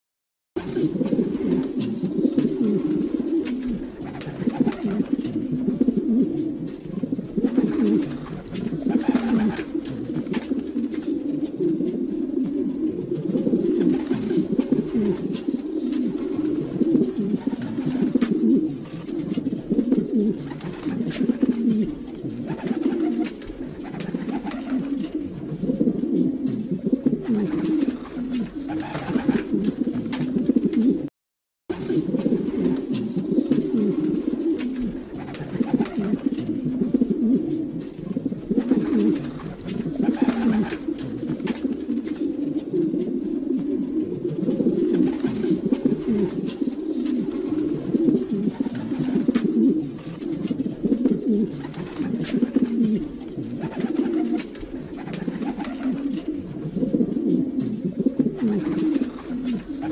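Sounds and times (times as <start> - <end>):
pigeons cooing: 0.6 - 31.1, 31.7 - 59.9.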